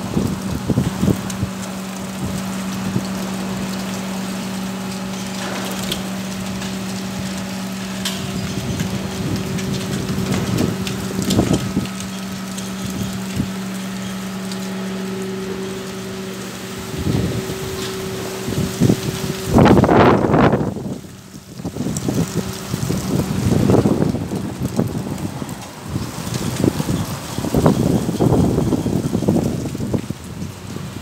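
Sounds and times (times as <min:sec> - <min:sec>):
steady low hum: 0:00.0 - 0:27.6
wind buffeting microphone: 0:00.0 - 0:31.0.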